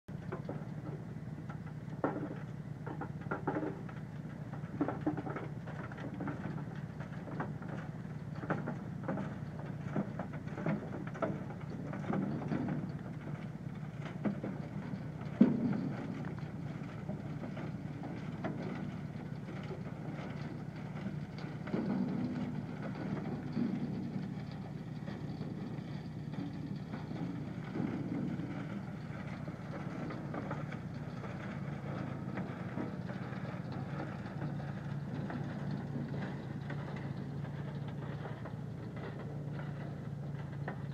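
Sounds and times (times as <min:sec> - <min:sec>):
engine hum: 0:00.0 - 0:40.9
knocks and rattles: 0:00.1 - 0:40.9
material clattering in rotating drum: 0:00.1 - 0:40.9.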